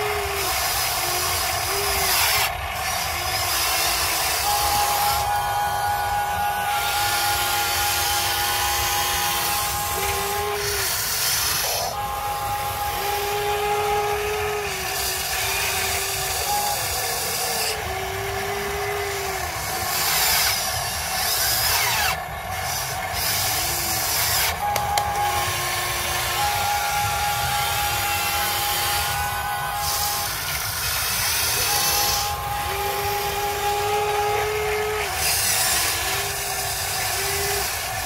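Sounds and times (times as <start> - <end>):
electric motors whining: 0.0 - 38.0.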